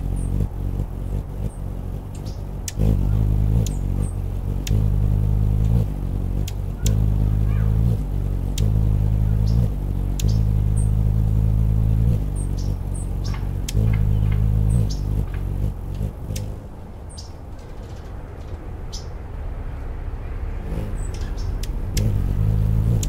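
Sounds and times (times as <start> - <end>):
hummingbird wingbeats humming: 0.0 - 18.1, 20.2 - 23.0.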